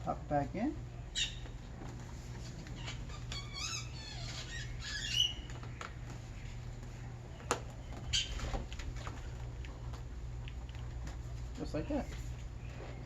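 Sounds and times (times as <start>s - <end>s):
birds chirping and squawking: 0.8s - 13.0s.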